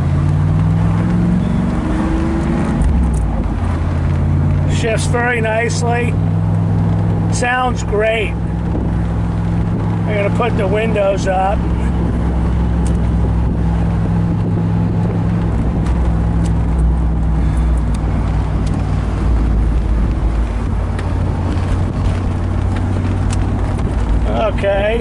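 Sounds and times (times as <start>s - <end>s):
car engine running: 0.0s - 25.0s
tyre and road noise: 0.0s - 25.0s.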